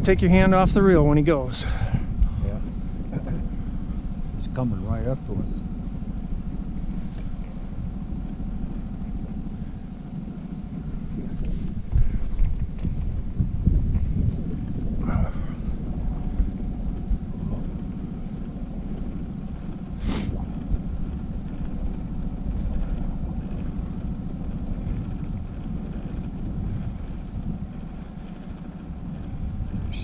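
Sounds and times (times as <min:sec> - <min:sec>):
outboard motor running: 0:00.0 - 0:30.0
wind buffeting the microphone: 0:00.0 - 0:30.0.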